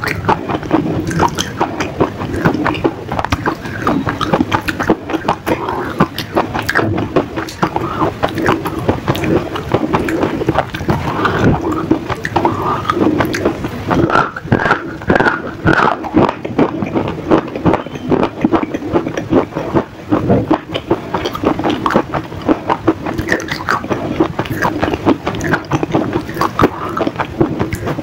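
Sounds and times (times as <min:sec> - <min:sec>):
person chewing and crunching: 0:00.0 - 0:28.0.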